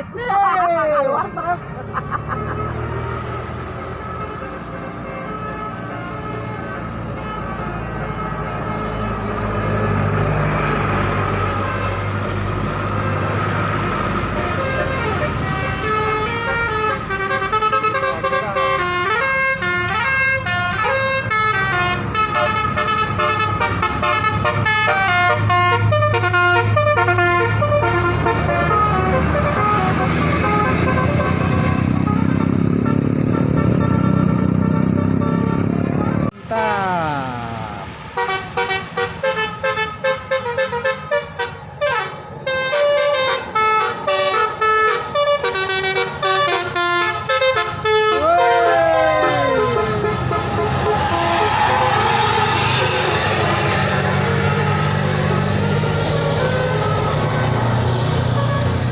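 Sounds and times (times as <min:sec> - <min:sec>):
bus engine running: 0:00.0 - 0:58.9
multi-tone bus horns playing tunes: 0:01.0 - 0:58.9.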